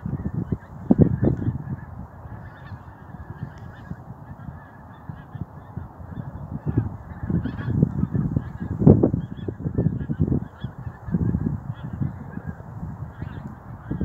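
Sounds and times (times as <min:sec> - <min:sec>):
geese honking in flight: 0:00.1 - 0:14.0.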